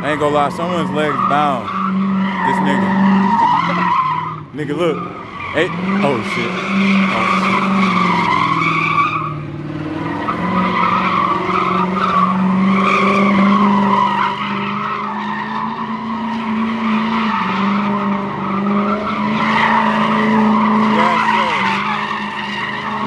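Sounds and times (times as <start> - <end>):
car tyres screeching: 0.0 - 23.0
engine at high revs: 0.0 - 23.0.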